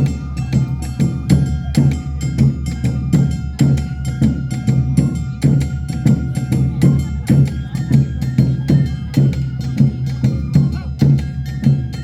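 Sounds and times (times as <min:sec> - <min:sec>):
drums beating: 0:00.0 - 0:12.0
held melodic tones: 0:00.0 - 0:12.0.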